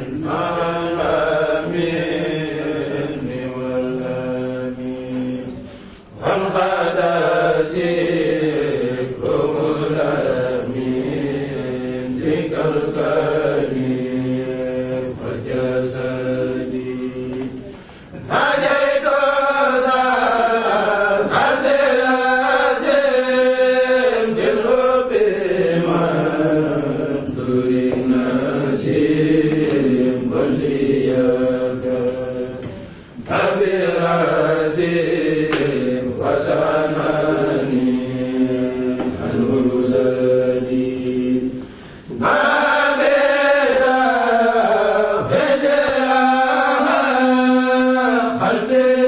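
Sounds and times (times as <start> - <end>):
men chanting in unison: 0.0 - 49.0.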